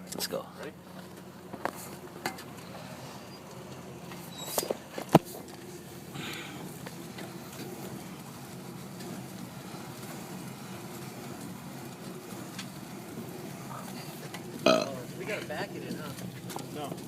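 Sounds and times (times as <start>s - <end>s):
machine running low hum: 0.0s - 17.0s.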